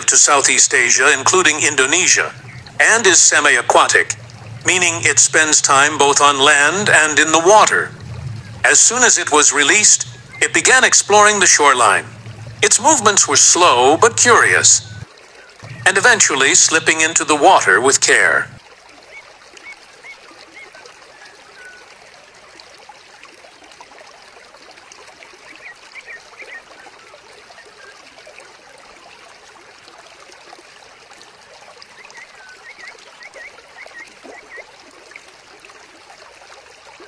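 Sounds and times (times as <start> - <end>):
small waterfall trickling: 0.0 - 37.0.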